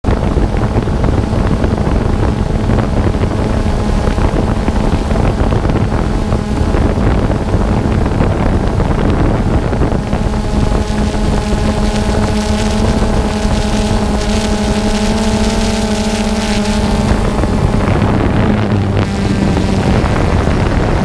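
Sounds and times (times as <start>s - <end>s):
drone propellers humming: 0.0s - 21.0s
wind buffeting microphone: 0.0s - 21.0s.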